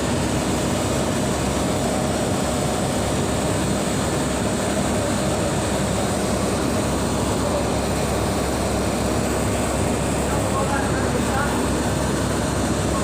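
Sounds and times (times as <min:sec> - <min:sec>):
hvac machine noise: 0:00.0 - 0:13.0.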